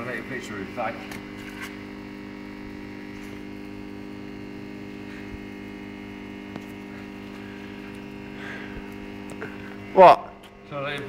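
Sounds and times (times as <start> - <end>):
hum of held tones: 0.0 - 11.0.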